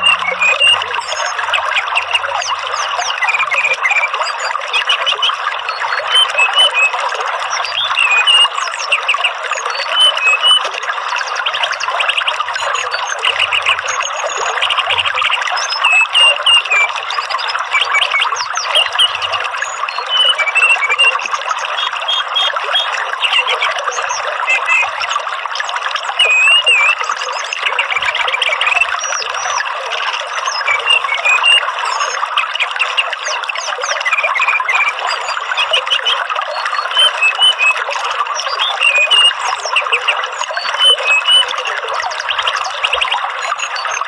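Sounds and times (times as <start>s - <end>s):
songbird whistles and chirps: 0.0s - 10.8s, 12.0s - 25.2s, 25.9s - 44.0s.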